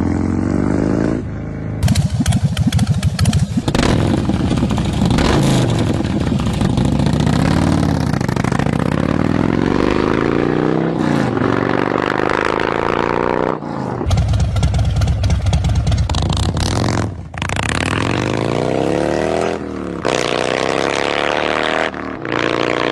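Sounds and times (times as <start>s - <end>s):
motorcycle engines revving: 0.0s - 22.9s.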